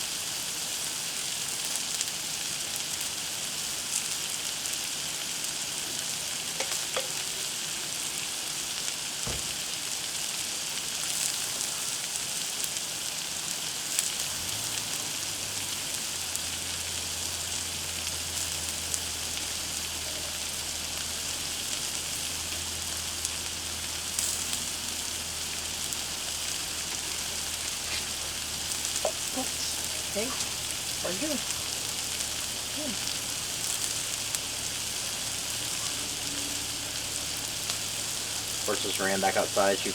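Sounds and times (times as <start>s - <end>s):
food sizzling on a griddle: 0.0s - 39.9s.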